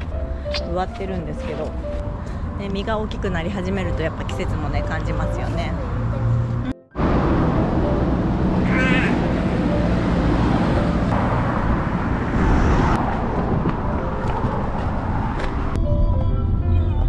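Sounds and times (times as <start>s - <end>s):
cars driving past: 1.2s - 16.0s.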